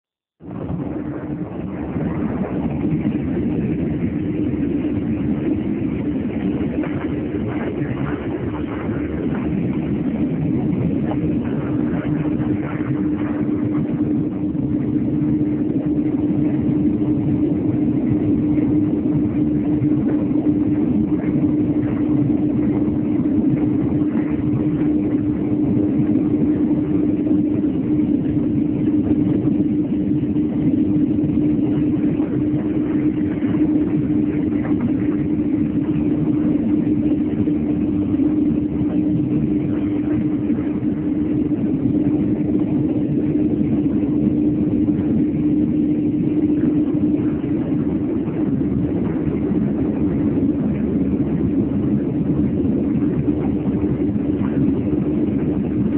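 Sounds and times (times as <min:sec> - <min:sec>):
machine drone: 0:00.4 - 0:55.9.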